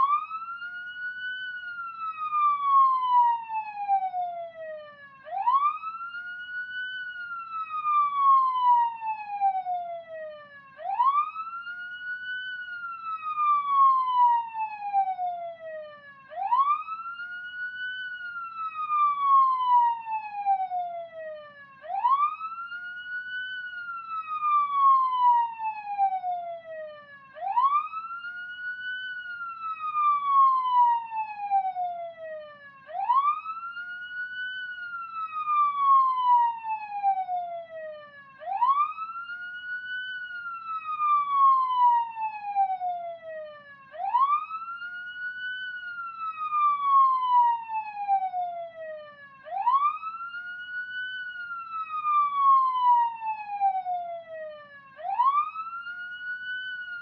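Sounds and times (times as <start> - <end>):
police siren wailing: 0.0 - 57.0.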